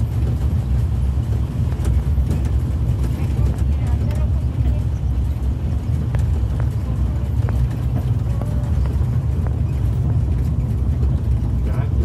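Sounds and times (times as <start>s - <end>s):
road train rumble: 0.0s - 12.0s.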